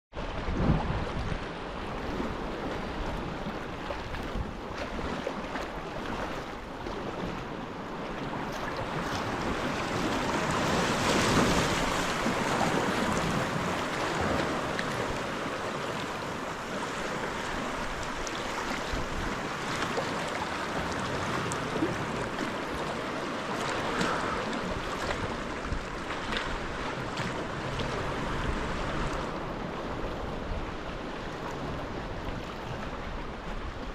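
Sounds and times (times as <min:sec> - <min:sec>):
sea waves: 0:00.1 - 0:33.9
water splashing around kayak: 0:00.1 - 0:33.9
wind buffeting microphone: 0:00.1 - 0:33.9.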